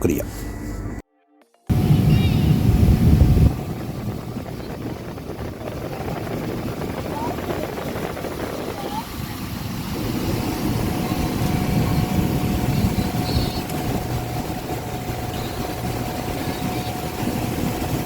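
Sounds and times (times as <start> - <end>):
aircraft engine rumble: 1.7 - 18.0
faint steady whine: 1.7 - 18.0.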